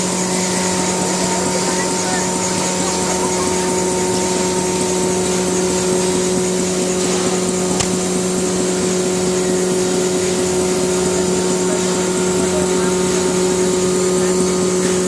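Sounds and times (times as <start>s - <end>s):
machinery motor drone: 0.0s - 15.0s.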